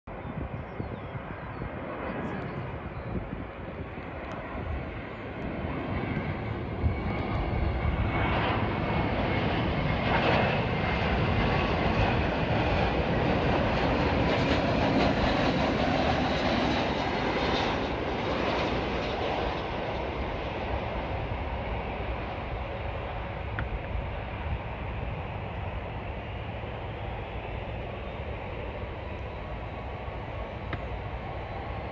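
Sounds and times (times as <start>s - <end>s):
jet engines rushing: 0.1s - 31.9s.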